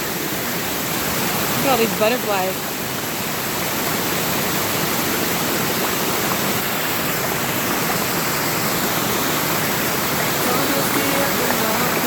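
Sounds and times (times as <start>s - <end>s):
waterfall and stream rushing: 0.0s - 12.0s.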